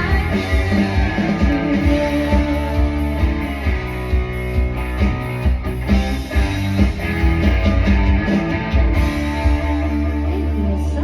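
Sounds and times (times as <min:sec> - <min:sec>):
drum kit: 0:00.0 - 0:10.6
electric guitar: 0:00.0 - 0:11.0.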